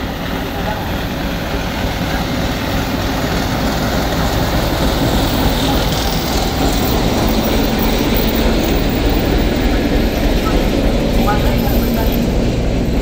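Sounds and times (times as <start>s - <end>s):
diesel engine running: 0.0s - 13.0s
wheels clattering on rails: 0.0s - 13.0s.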